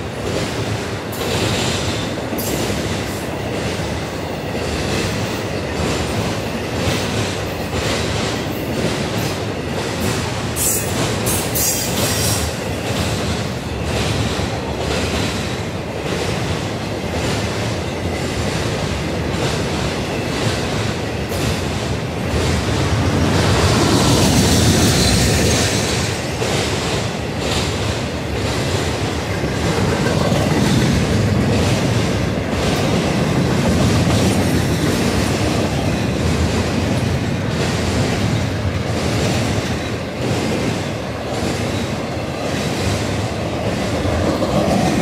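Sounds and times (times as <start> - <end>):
freight train wheels rumbling on rails: 0.0 - 45.0.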